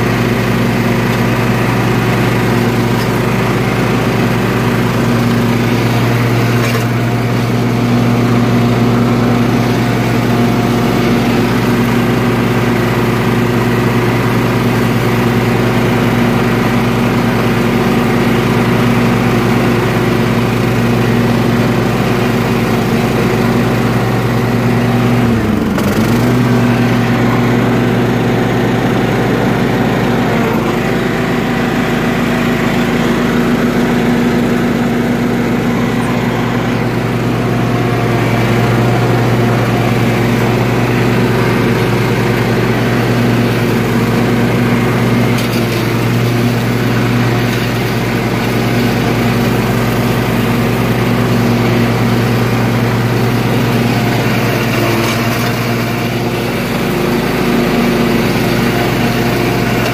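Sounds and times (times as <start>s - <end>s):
riding mower engine running: 0.0s - 59.9s.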